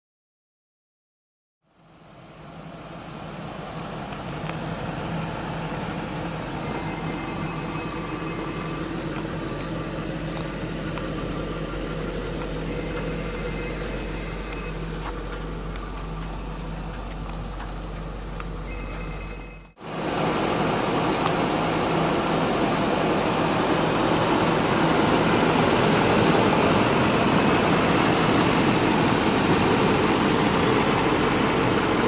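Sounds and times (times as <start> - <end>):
car engine idling: 1.7 - 32.0.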